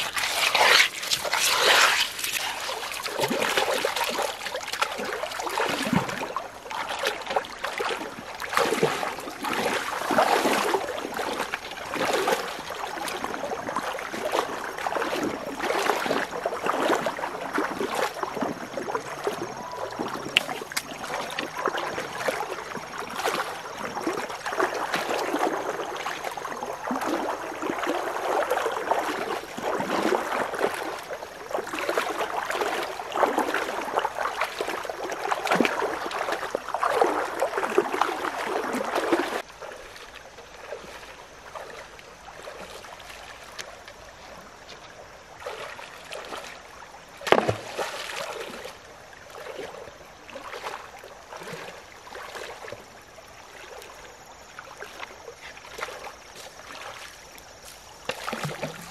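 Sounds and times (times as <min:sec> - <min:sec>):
running stream: 0:00.0 - 0:58.9
wading splashing through water: 0:00.0 - 0:58.9.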